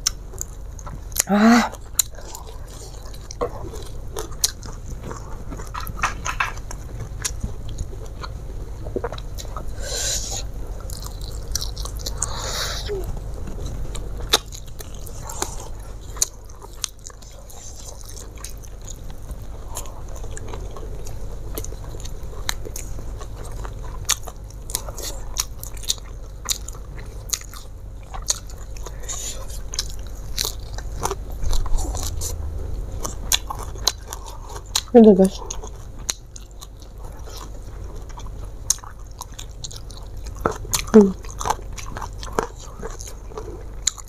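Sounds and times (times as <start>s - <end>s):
person chewing crunchy food: 0.0s - 44.0s
steady low hum: 0.0s - 44.0s.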